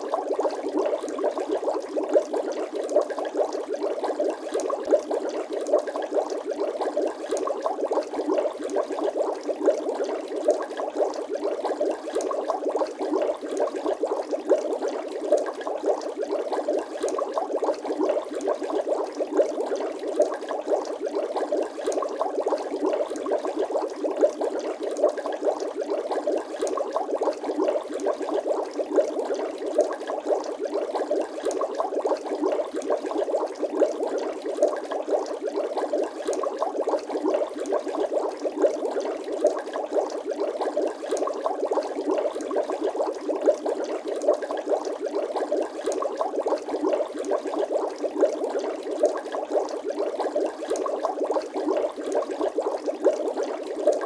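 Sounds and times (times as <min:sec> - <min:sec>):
continuous bubbling: 0:00.0 - 0:54.0.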